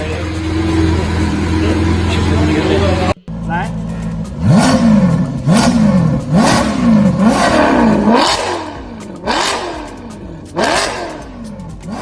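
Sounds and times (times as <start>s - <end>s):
car engine revving with crackles: 0.0s - 12.0s.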